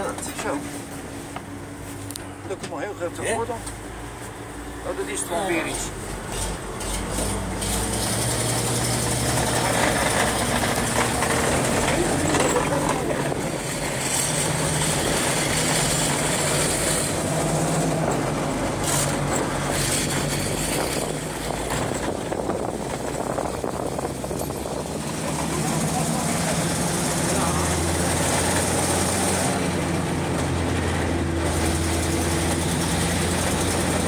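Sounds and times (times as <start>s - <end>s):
road and track noise: 0.0s - 34.0s
vehicle engine under load: 0.0s - 34.0s.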